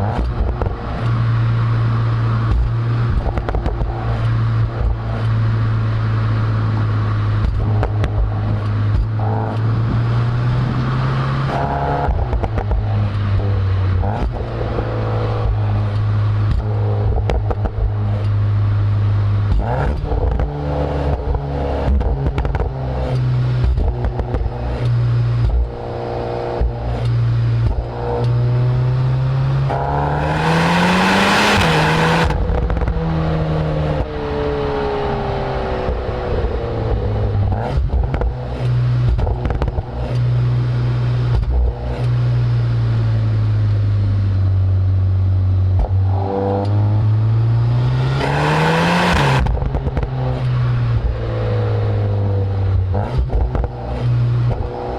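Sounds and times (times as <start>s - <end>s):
car engine revving while driving: 0.0s - 54.9s.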